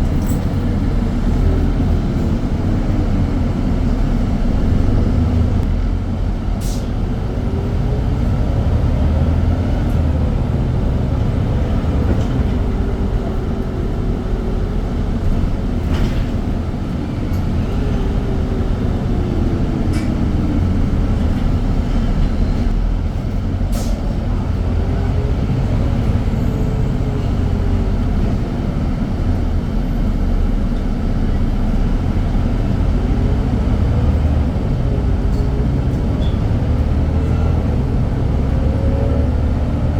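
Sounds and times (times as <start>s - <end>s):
bus engine and road rumble: 0.0s - 39.9s
bus whine rising and falling: 0.0s - 39.9s.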